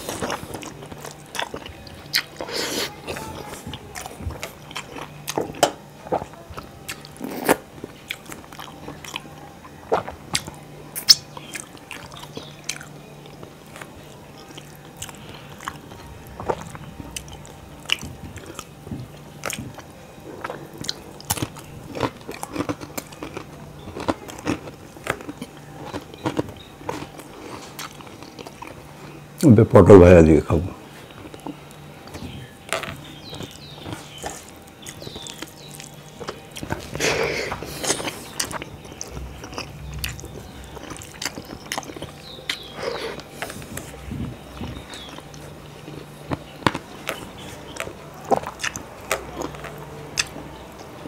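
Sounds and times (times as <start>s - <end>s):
wet chewing and mouth sounds: 0.0s - 29.5s, 30.8s - 51.0s.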